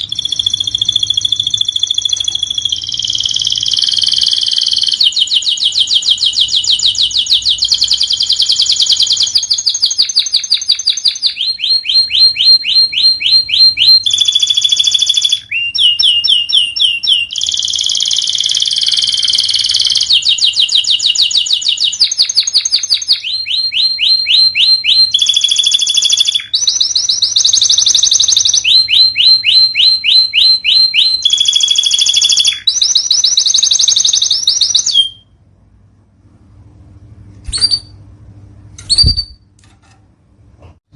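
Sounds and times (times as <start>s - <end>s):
canary singing fast trills: 0.0s - 35.3s, 38.8s - 39.4s.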